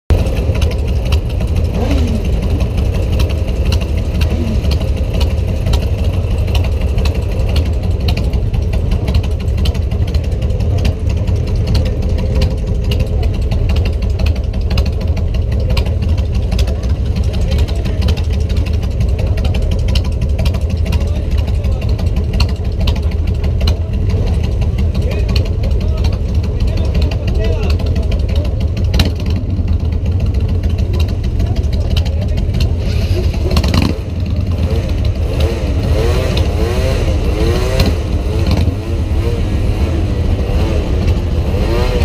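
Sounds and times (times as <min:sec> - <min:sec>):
motorcycle engines idling: 0:00.1 - 0:42.0.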